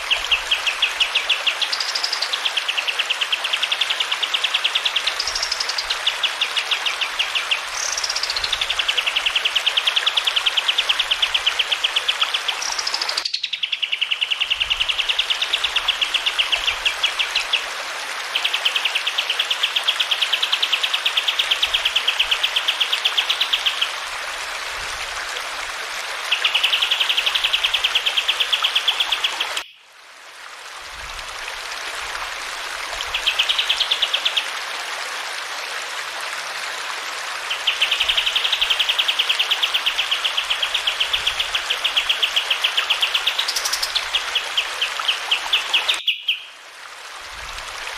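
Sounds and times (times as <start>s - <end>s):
running water hiss: 0.0s - 47.9s.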